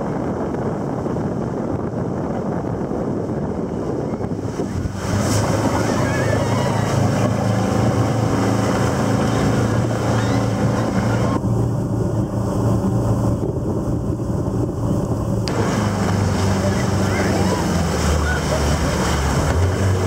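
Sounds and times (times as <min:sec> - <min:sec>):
outboard motor running: 0:00.0 - 0:20.0
rush of boat wake: 0:00.0 - 0:20.0
wind buffeting microphone: 0:00.0 - 0:20.0.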